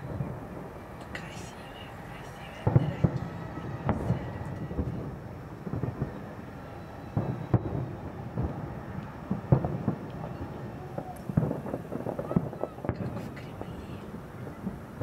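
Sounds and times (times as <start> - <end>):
distant firework booms: 2.6 - 15.0.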